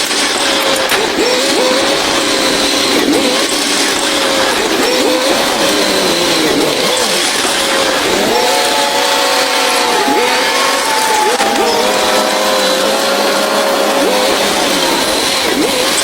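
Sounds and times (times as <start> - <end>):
heavy machinery engine revving: 0.0 - 16.0.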